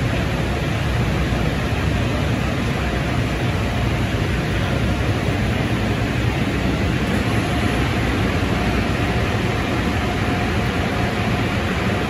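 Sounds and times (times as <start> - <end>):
car wash equipment running: 0.0 - 12.0
faint steady whine: 0.0 - 12.0.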